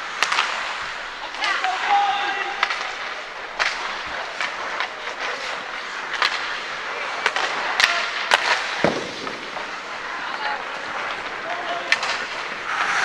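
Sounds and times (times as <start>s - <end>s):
hockey sticks and puck clacking: 0.0s - 13.0s
skates scraping on ice: 0.0s - 13.0s.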